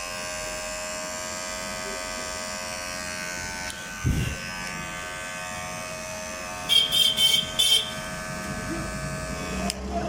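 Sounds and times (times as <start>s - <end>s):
electric hair trimmer humming: 0.0s - 10.0s.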